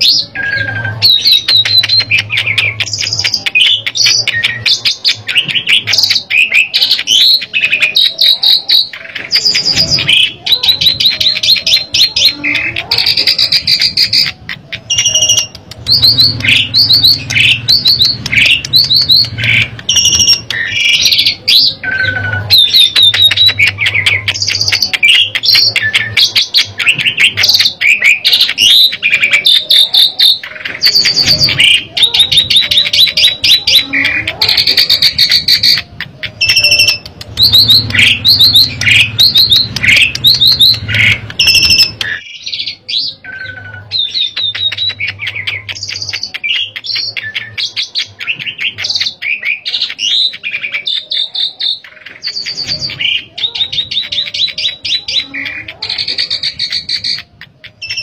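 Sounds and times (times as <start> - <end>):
starling singing whistles and chirps: 0.0 - 58.0.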